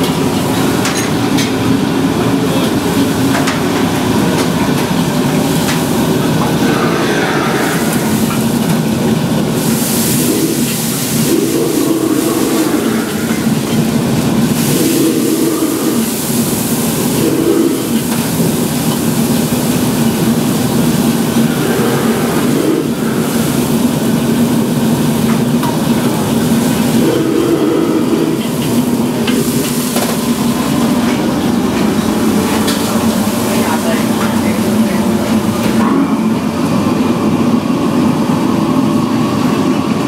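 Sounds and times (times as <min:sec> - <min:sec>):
gas burner roaring: 0:00.0 - 0:40.0.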